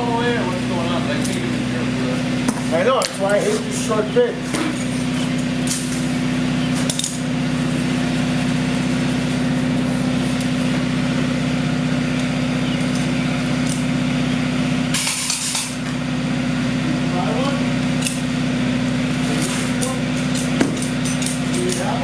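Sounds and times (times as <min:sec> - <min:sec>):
machine engine drone: 0:00.0 - 0:22.0.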